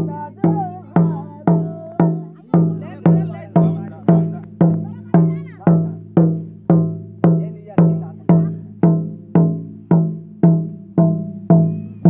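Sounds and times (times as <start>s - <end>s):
hand drums beating: 0.0s - 12.0s.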